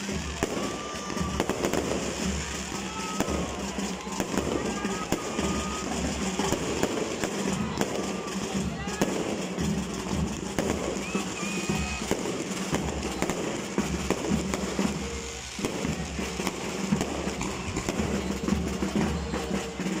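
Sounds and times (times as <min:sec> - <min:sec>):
firework whistle: 0:00.0 - 0:20.0
fireworks popping and crackling: 0:00.0 - 0:20.0
music with steady beat: 0:00.0 - 0:20.0.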